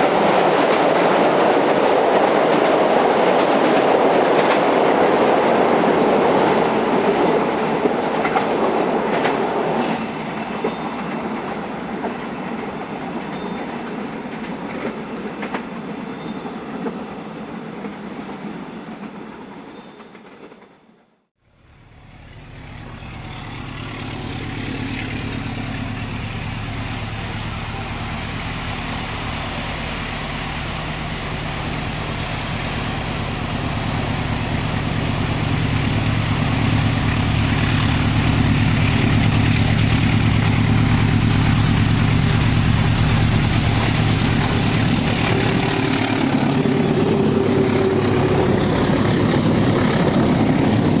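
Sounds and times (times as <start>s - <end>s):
diesel locomotive hum: 0.0s - 20.6s, 21.4s - 51.0s
train passing on rails: 0.0s - 51.0s.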